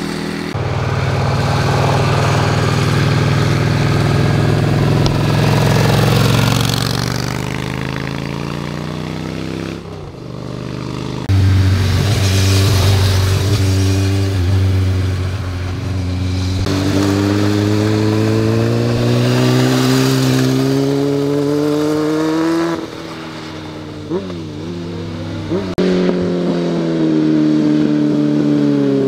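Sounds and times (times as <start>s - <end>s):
motorcycle engine: 0.0s - 29.0s
motorcycle engine accelerating: 0.0s - 29.0s.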